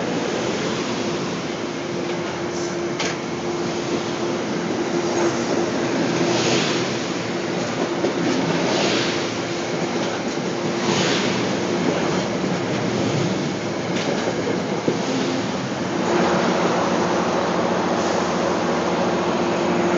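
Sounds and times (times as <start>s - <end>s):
electric train hum: 0.0s - 19.9s
train wheels rumbling on rail: 0.0s - 19.9s.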